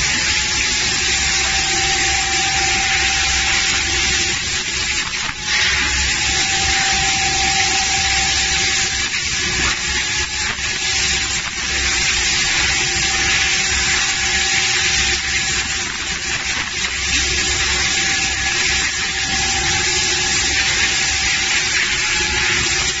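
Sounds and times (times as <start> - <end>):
loud even hiss: 0.0 - 23.0.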